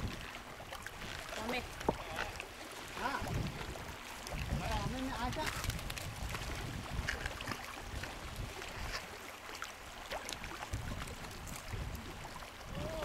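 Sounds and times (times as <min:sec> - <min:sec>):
wind buffeting microphone: 0:00.0 - 0:09.1, 0:10.3 - 0:13.0
lapping water: 0:00.0 - 0:13.0.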